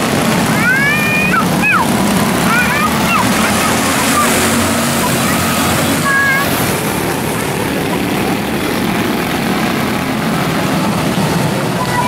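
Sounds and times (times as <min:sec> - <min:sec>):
small race car engines droning: 0:00.0 - 0:12.0.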